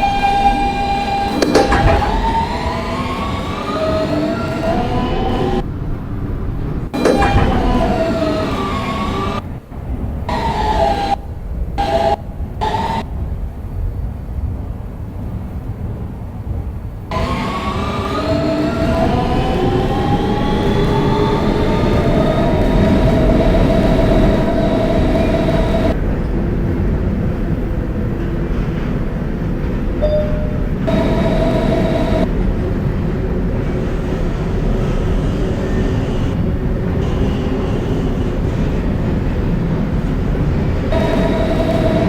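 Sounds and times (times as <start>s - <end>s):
traction motors whining: 0.0s - 13.3s, 17.1s - 26.0s, 29.6s - 42.0s
wheels rumbling on track: 0.0s - 42.0s.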